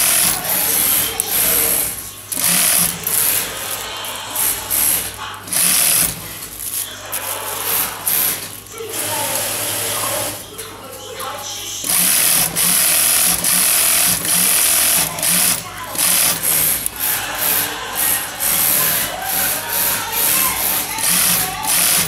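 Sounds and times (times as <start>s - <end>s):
sewing machine stitching: 0.0s - 10.4s, 11.8s - 22.0s.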